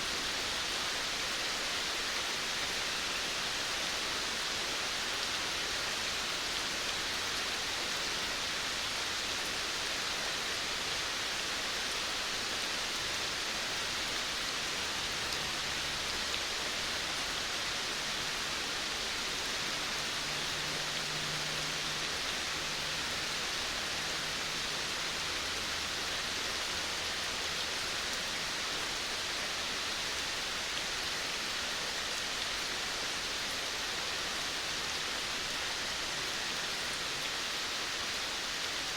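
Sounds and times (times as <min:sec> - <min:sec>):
steady rain on a veranda: 0:00.0 - 0:38.9.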